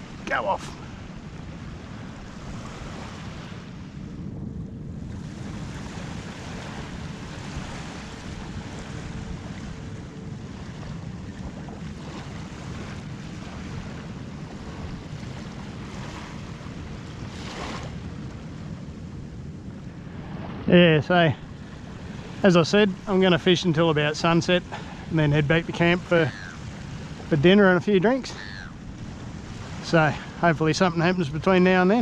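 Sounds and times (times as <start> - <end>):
surf washing onto beach: 0.0 - 4.2, 5.0 - 32.0
wind buffeting microphone: 0.0 - 32.0.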